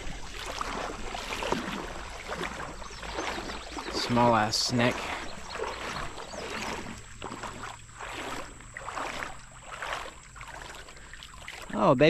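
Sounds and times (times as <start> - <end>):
water swishing around wading legs: 0.0 - 12.0.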